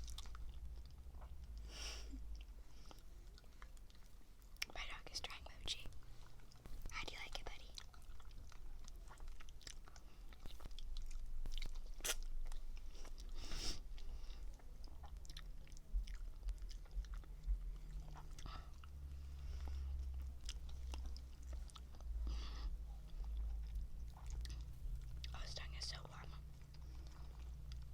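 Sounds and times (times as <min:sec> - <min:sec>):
person chewing: 0:00.0 - 0:04.8, 0:05.9 - 0:25.4, 0:26.4 - 0:27.9
low rumble: 0:05.0 - 0:27.9.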